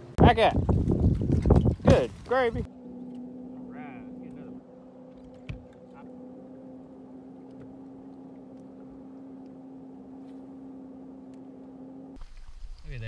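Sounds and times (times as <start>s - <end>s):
electric trolling motor humming: 0.6s - 12.8s.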